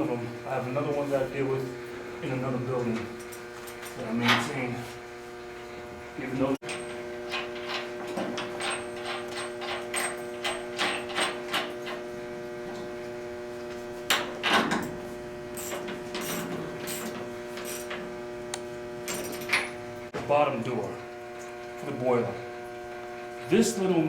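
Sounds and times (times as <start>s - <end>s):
boiler room equipment humming: 0.0s - 24.0s.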